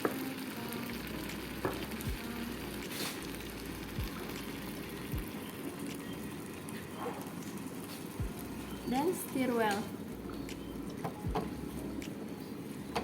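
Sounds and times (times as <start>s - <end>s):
sauce sizzling in oil: 0.0s - 13.0s.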